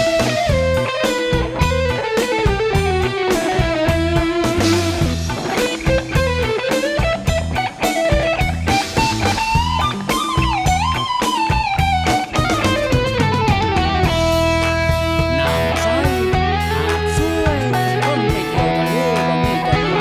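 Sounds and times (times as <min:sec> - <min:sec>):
bass and drums backing track: 0:00.0 - 0:20.0
electric guitar solo: 0:00.0 - 0:20.0.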